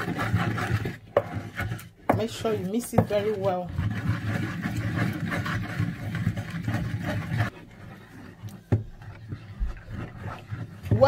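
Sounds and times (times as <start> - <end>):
pestle grinding in mortar: 0.0 - 11.0.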